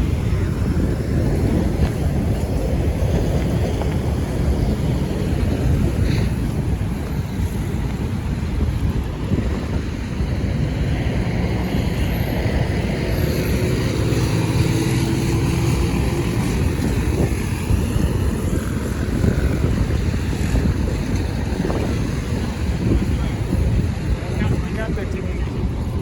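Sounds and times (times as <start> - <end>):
passing vehicles rumbling: 0.0 - 26.0
wind buffeting microphone: 0.0 - 26.0.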